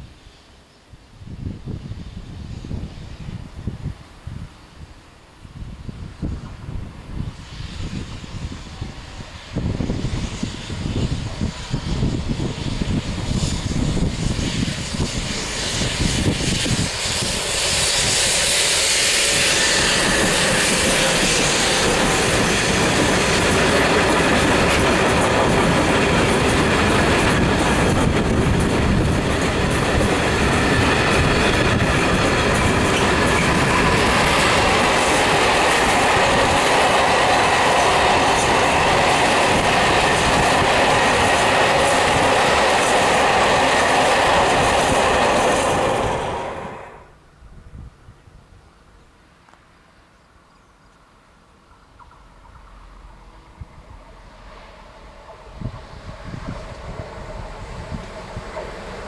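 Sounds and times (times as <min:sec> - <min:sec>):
electric locomotives passing: 0:00.0 - 0:59.0
freight train wheels on rails: 0:01.2 - 0:47.2, 0:49.2 - 0:59.0.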